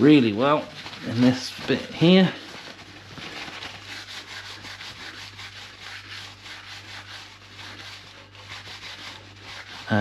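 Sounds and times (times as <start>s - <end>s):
cloth wiping wheel rim: 0.0s - 10.0s.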